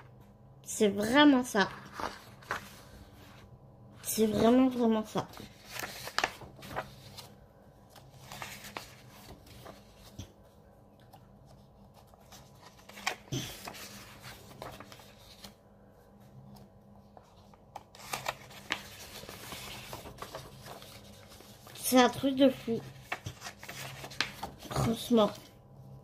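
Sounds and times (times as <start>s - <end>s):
faint steady hum: 0.0s - 26.0s
paper pages rustling: 1.6s - 3.5s, 4.1s - 25.5s.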